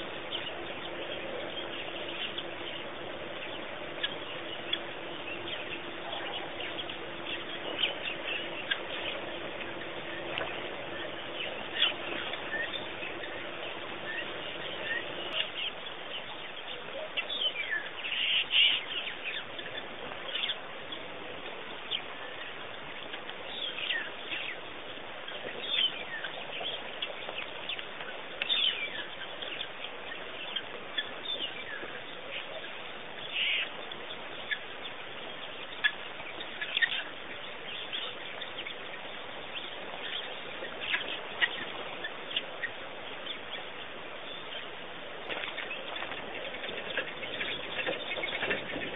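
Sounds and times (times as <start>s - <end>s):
background hiss: 0.0s - 48.9s
birds chirping: 0.0s - 48.9s.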